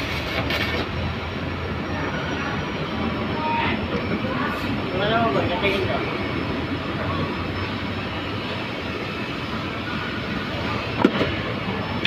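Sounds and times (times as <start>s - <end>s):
machinery rumbling and hissing: 0.0s - 12.0s.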